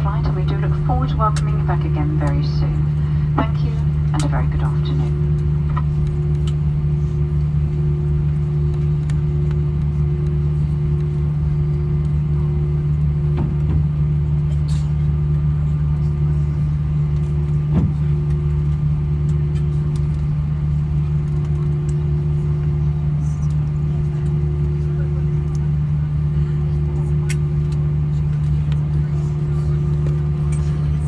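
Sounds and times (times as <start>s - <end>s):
aircraft cabin drone: 0.0s - 31.0s.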